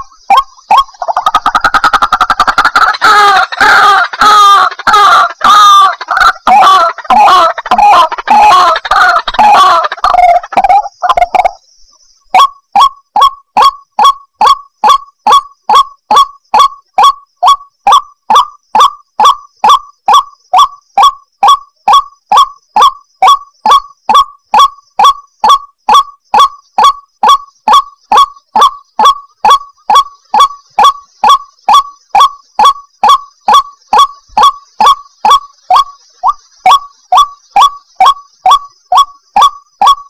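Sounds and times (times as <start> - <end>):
waterhen harsh repeated call: 0.0 - 11.6, 12.4 - 40.0.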